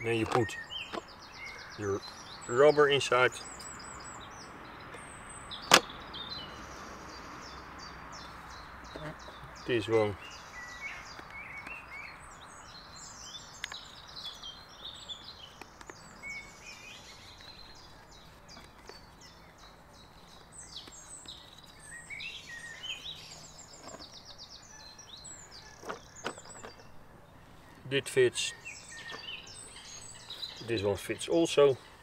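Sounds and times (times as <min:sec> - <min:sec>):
faint outdoor hiss: 0:00.0 - 0:32.0
songbirds chirping: 0:00.0 - 0:32.0.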